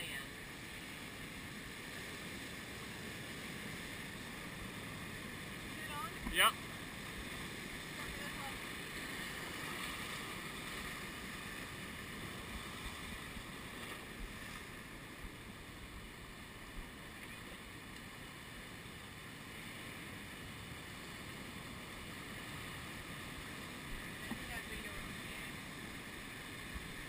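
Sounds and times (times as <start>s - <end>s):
ocean surf breaking over rocks: 0.0s - 27.0s.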